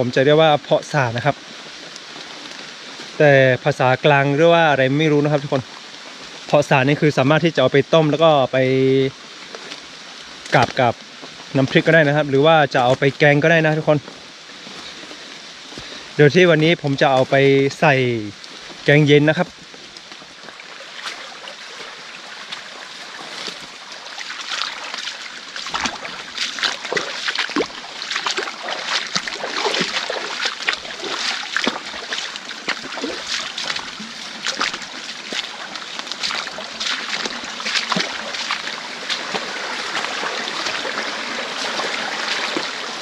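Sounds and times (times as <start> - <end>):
stream water splashing: 0.0 - 43.0.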